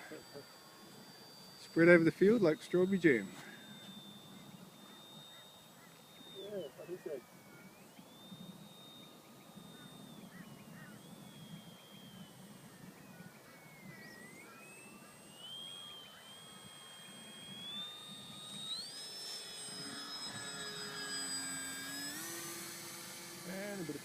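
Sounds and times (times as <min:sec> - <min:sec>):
model airplane motor whining: 0:00.0 - 0:24.0.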